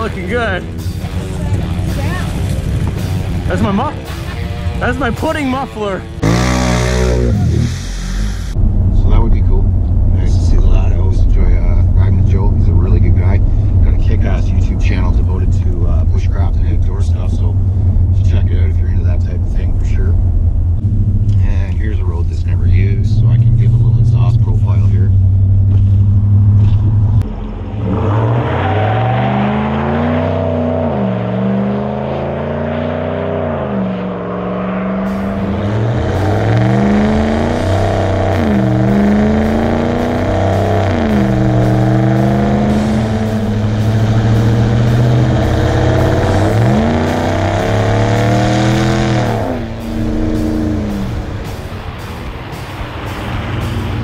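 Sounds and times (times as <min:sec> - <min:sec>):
road and wind noise: 0:00.0 - 0:54.0
truck exhaust accelerating: 0:00.0 - 0:54.0.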